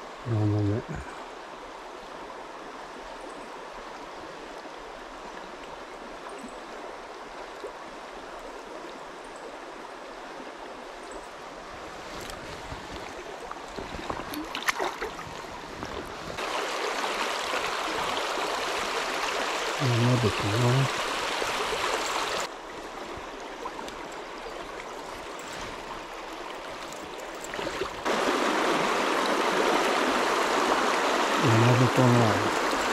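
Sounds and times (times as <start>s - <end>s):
stream running over stones: 0.0s - 32.9s.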